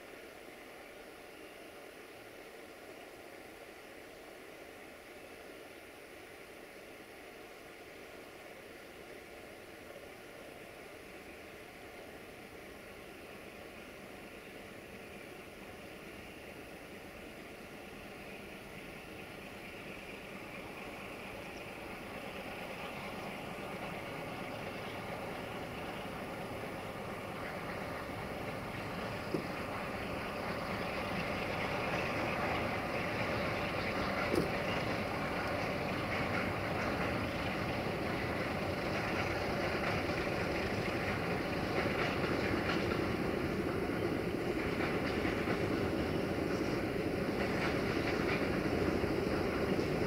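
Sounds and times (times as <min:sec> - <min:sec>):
diesel locomotive engine running: 0:00.0 - 0:50.0.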